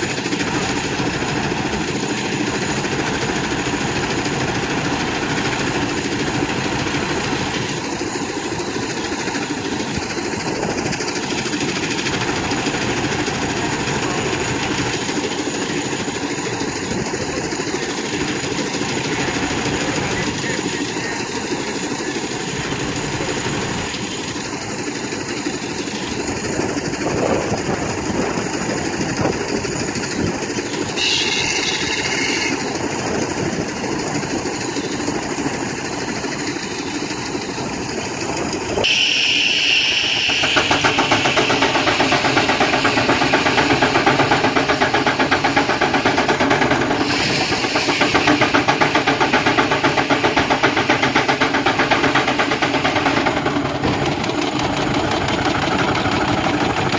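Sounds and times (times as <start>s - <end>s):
steam engine exhaust beating: 0.0s - 56.9s
circular saw blade running: 0.1s - 56.9s.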